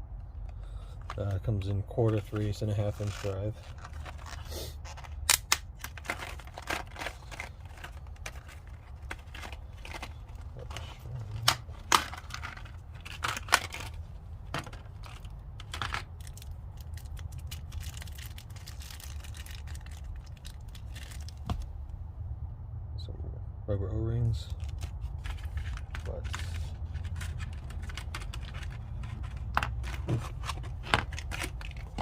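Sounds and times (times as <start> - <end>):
packaging crinkling: 0.7 - 21.6, 24.6 - 32.0
low hum: 5.0 - 32.0.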